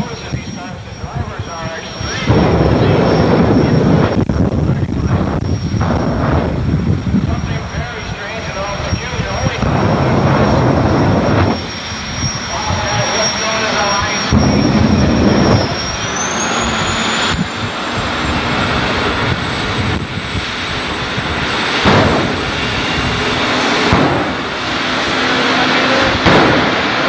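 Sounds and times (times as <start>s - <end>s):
turbine engine whine: 0.0s - 27.0s.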